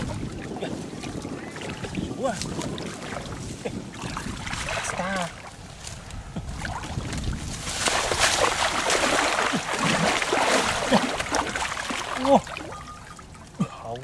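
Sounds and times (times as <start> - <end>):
muddy water splashing: 0.0 - 13.7.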